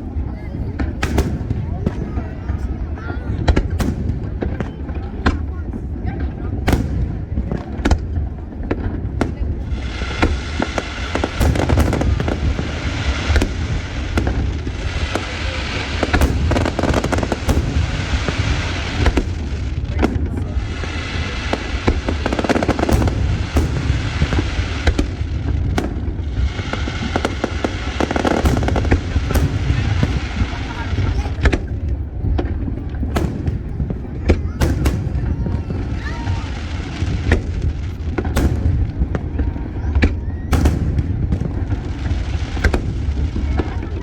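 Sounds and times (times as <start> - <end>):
fireworks bangs and booms: 0.0 - 44.0
fireworks crackle: 0.0 - 44.0.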